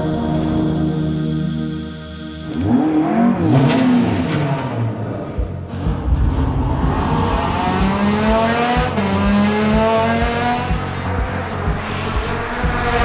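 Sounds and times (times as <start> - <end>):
car engine revving: 2.4 - 13.0.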